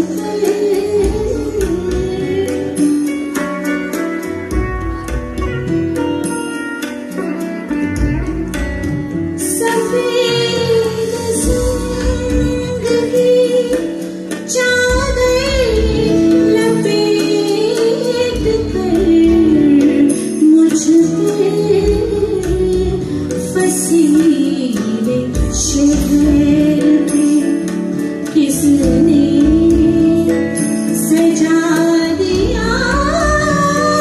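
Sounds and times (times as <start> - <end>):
woman singing: 0.0 - 4.6, 7.4 - 34.0
live band accompaniment: 0.0 - 34.0.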